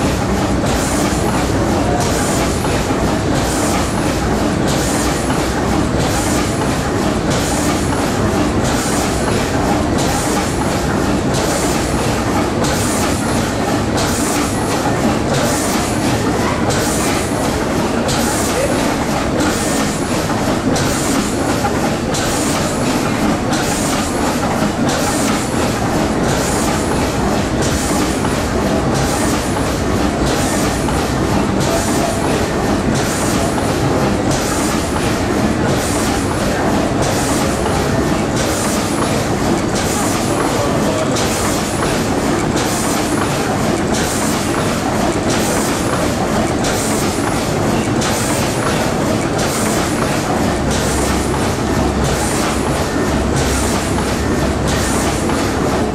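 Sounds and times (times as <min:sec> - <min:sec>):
gas pumping engine running: 0:00.0 - 0:55.9.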